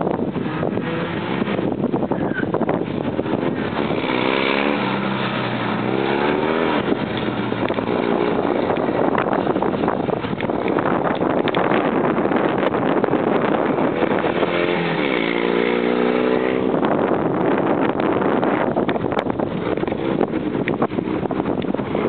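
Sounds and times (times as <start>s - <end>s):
small car engine revving: 0.3s - 18.6s.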